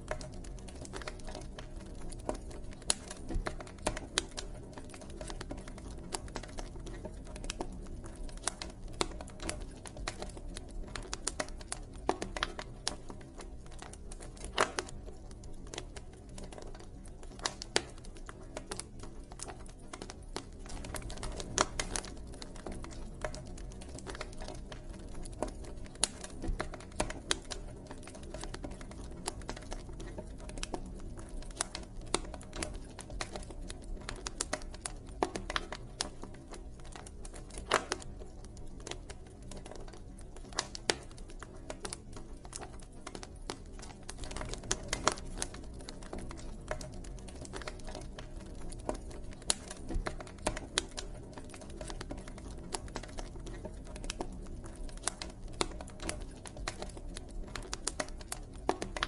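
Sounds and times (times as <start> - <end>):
burning wood crackling and popping: 0.0 - 59.0
campfire flames rumbling: 0.0 - 59.0.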